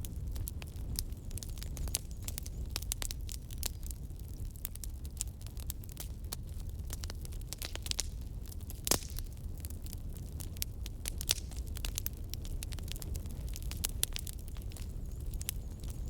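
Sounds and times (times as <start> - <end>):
campfire crackles and pops: 0.0 - 16.0
low steady fire rumble: 0.0 - 16.0.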